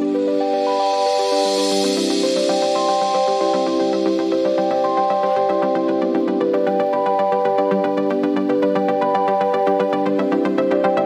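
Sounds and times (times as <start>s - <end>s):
electronic music with quick beat: 0.0s - 11.0s.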